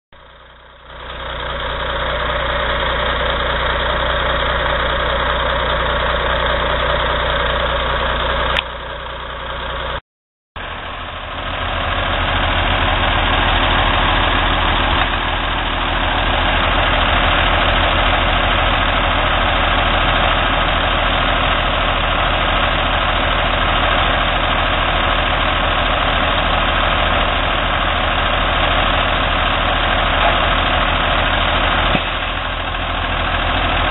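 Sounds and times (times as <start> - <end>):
truck diesel engine running: 0.1 - 10.0, 10.6 - 33.9.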